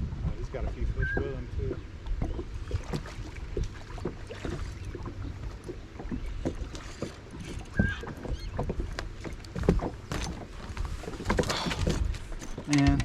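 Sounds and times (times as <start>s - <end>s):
thumps against a boat: 0.2s - 13.0s
water splashing against boat hull: 0.2s - 13.0s.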